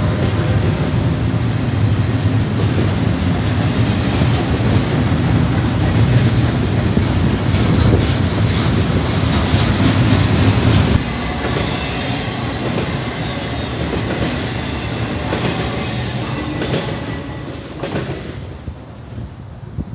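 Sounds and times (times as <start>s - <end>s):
freight train rumbling past: 0.0s - 19.9s.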